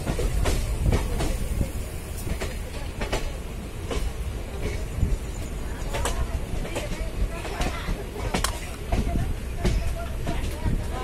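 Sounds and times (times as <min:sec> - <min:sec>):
low rumble of train coach: 0:00.0 - 0:11.0
train wheels clacking over joints: 0:00.0 - 0:11.0.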